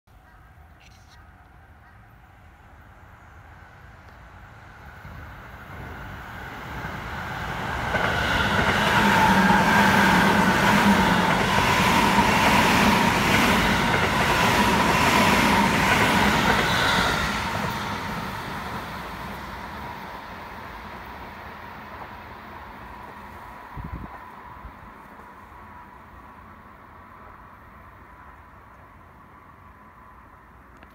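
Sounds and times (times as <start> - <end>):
electric train passing: 1.6 - 30.8.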